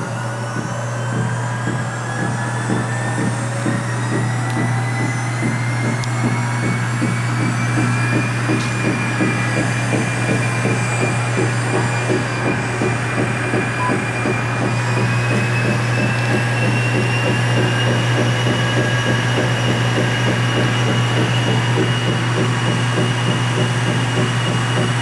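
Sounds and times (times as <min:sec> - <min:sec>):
fast mechanical rattle: 0:00.0 - 0:25.0
treadmill motor hum and whine: 0:00.0 - 0:25.0
treadmill thumping: 0:00.0 - 0:25.0.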